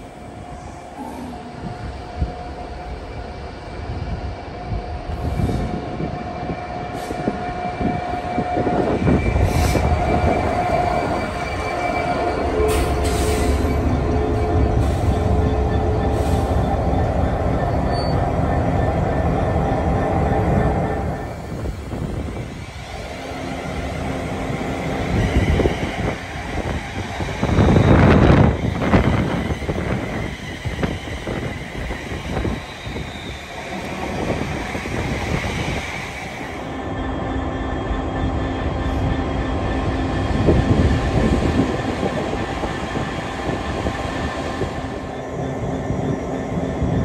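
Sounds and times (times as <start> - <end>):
train wheel and rail noise: 0.0 - 47.0.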